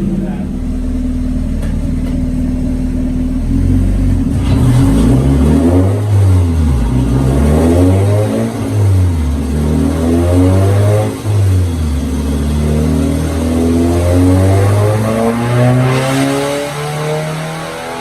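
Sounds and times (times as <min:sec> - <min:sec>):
car engine revving on dyno: 0:00.0 - 0:18.0.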